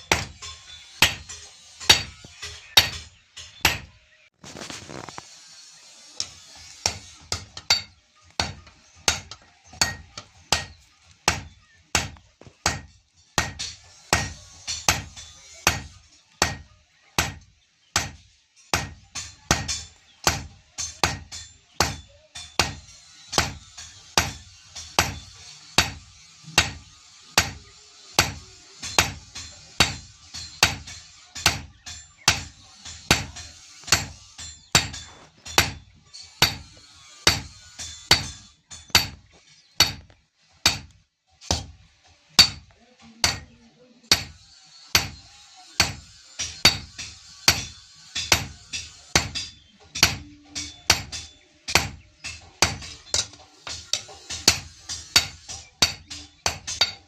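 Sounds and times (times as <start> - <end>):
hammer striking iron on anvil: 0.0 - 4.0, 6.2 - 26.0, 26.6 - 41.8, 42.4 - 57.0.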